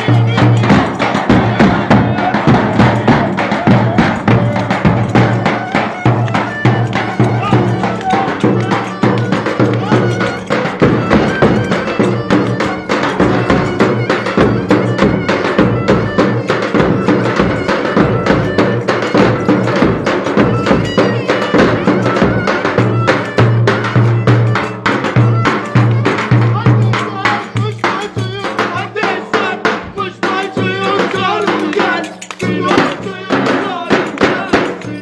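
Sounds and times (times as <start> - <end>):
fast steady drum beat: 0.0 - 35.0
folk dance music: 0.0 - 35.0.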